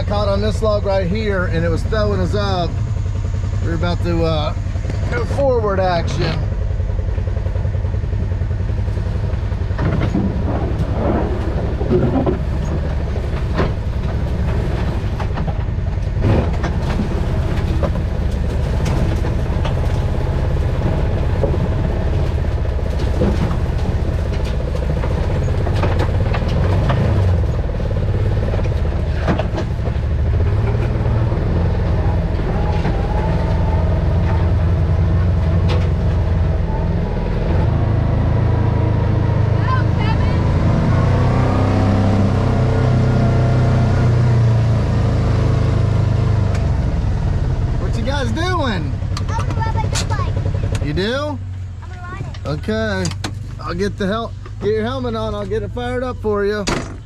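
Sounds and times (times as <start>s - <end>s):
knocks and rattles from vehicle: 0.0s - 38.0s, 45.4s - 57.0s
utility vehicle engine running: 0.0s - 57.0s.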